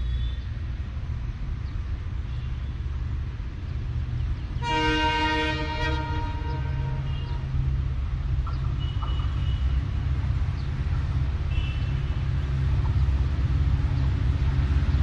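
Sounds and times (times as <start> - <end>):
approaching train rumble: 0.0 - 15.0.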